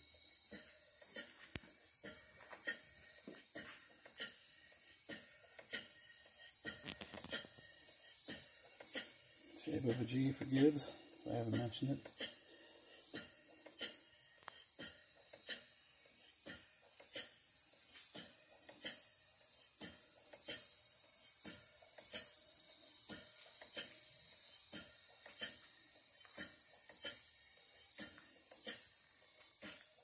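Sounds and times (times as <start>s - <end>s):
steam engine hiss: 0.0s - 30.0s.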